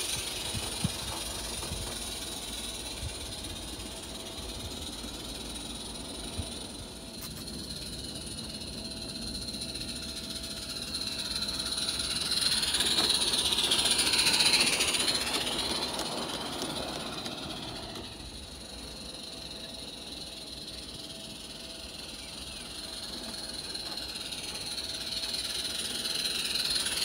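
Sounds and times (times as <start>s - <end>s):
model train running on track: 0.0s - 27.0s.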